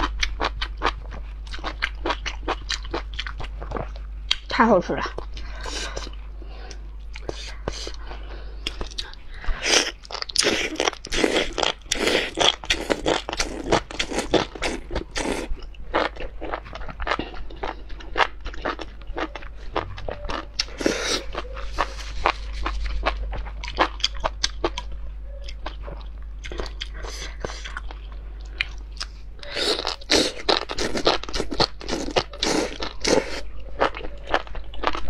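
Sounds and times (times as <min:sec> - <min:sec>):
chewing and slurping: 0:00.0 - 0:35.0.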